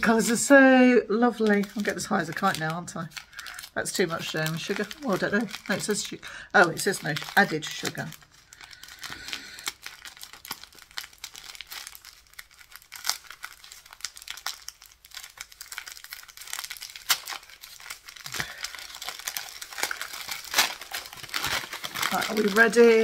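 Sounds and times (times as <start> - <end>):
gift wrapping crinkling and tearing: 0.0 - 23.0.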